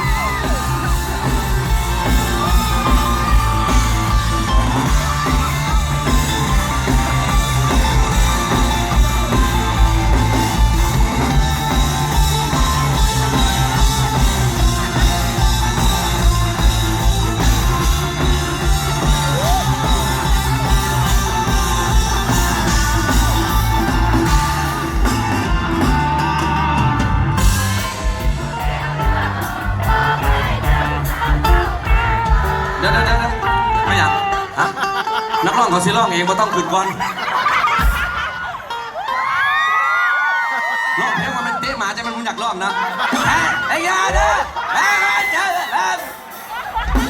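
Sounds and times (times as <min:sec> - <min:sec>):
live band with singing: 0:00.0 - 0:47.0.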